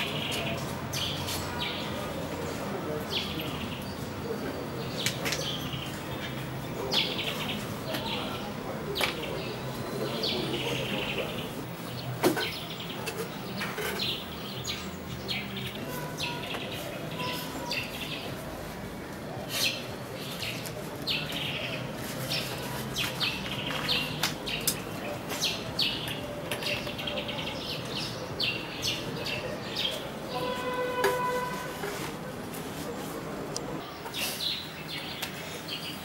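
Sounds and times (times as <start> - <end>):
small birds chirping: 0.0 - 18.4, 19.5 - 30.6, 33.7 - 36.0.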